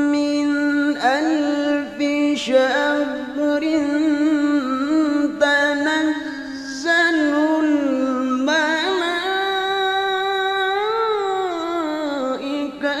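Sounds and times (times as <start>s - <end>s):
person chanting melodically: 0.0s - 13.0s.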